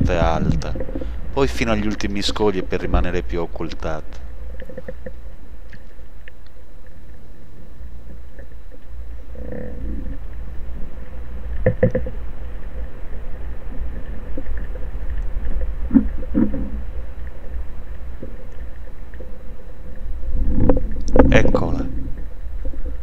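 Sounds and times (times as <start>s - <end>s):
underwater low rumble: 0.0s - 23.0s.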